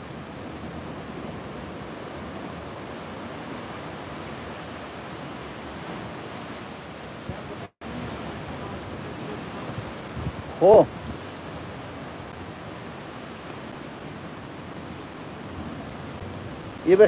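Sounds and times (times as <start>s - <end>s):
ocean surf on rocky shore: 0.0s - 17.0s
wind: 0.0s - 17.0s.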